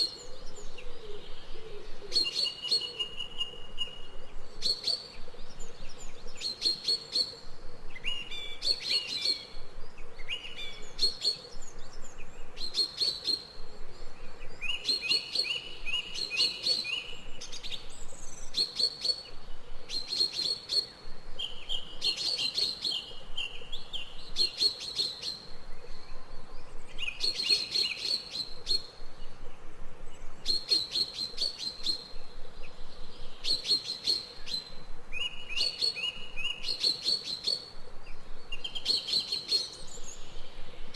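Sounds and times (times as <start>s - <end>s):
faint background hiss: 0.0s - 40.9s.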